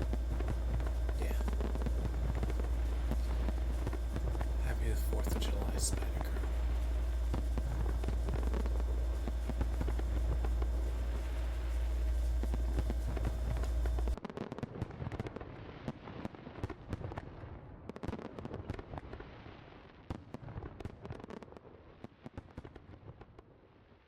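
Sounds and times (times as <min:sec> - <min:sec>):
fireworks sharp crackling pops: 0:00.0 - 0:23.5
fireworks rumbling and crackling: 0:00.0 - 0:24.0.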